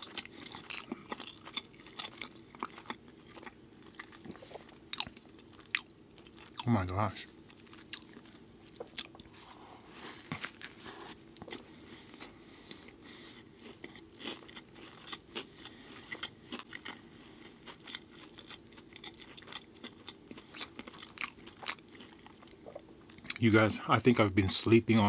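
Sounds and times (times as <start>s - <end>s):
chewing food: 0.0s - 23.4s.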